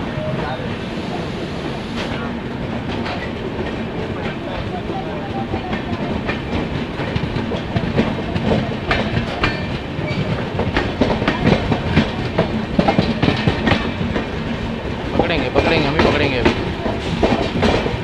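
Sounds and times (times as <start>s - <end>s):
train rumbling: 0.0s - 18.0s
wheels clattering over rail joints: 2.8s - 18.0s.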